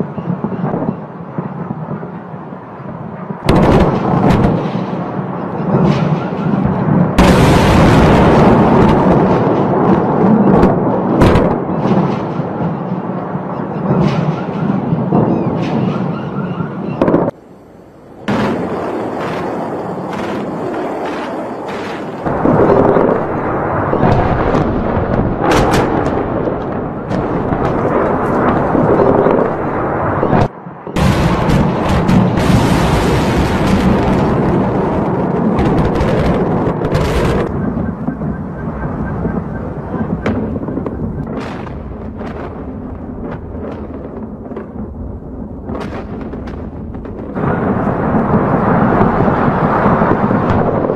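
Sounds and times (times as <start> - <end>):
continuous rumble: 0.0 - 50.9
distant bombs exploding: 0.0 - 50.9
sharp explosion cracks: 3.3 - 16.1, 18.2 - 50.9.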